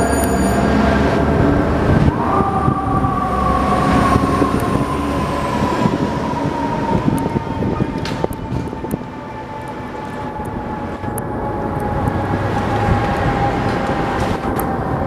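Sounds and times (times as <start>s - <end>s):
fire truck siren: 0.0s - 15.0s
street traffic: 0.0s - 15.0s.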